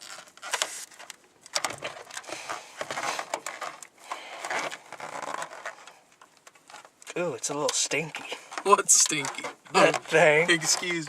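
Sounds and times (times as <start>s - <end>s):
plastic capsule rustling: 0.0s - 11.0s.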